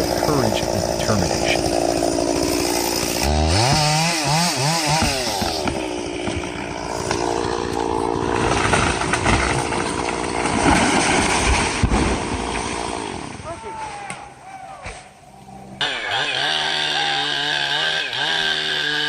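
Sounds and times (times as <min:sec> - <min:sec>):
chainsaw revving and cutting wood: 0:00.0 - 0:13.4, 0:15.8 - 0:19.0.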